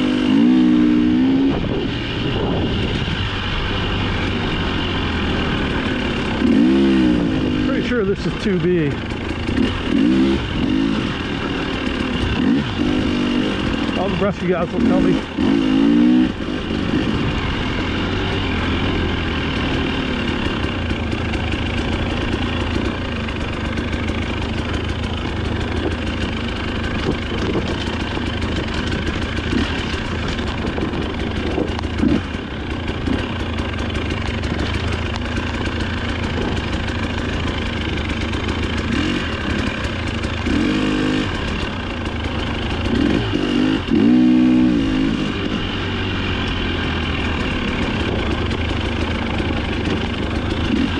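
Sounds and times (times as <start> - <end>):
dirt bike engine under load: 5.3 - 45.8, 46.4 - 50.9.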